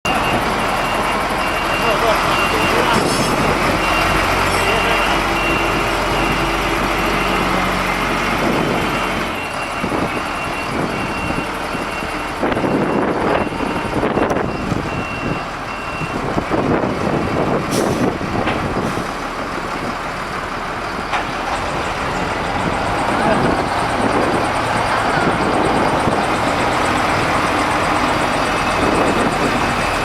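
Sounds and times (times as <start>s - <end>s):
reversing alarm beeping: 0.1s - 16.7s, 20.8s - 30.0s
concrete mixer truck running: 0.1s - 30.0s.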